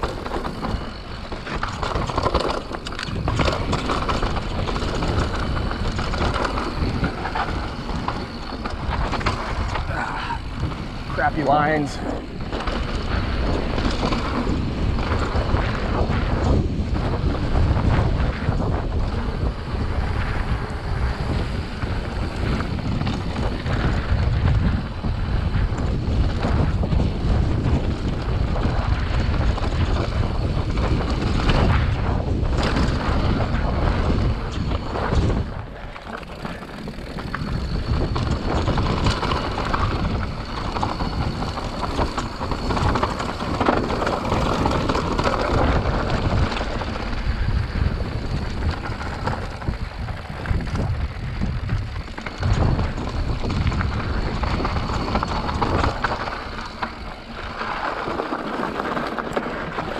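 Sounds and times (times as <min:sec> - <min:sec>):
bike rattling and knocking: 0:00.0 - 0:59.9
tires crunching over dirt: 0:00.0 - 0:59.9
wind buffeting microphone: 0:00.0 - 0:59.9.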